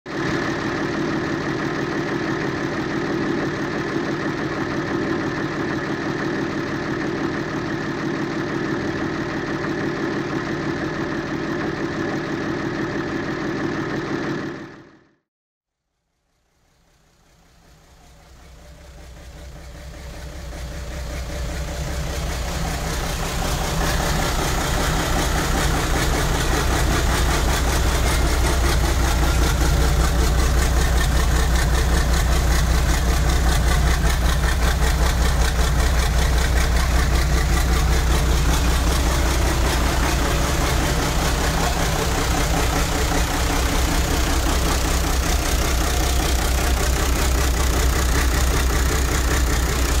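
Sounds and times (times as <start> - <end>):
diesel engine running: 0.1 - 15.2, 16.8 - 50.0.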